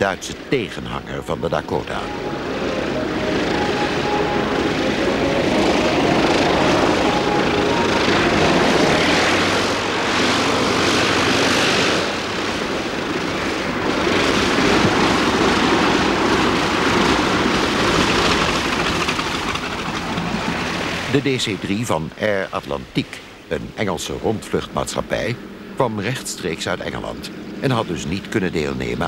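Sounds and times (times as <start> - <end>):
aircraft propeller drone: 0.0 - 29.0.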